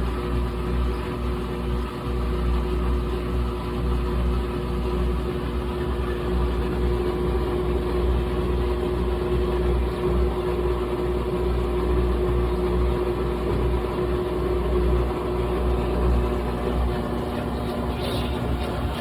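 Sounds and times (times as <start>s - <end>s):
washing machine running: 0.0s - 19.0s.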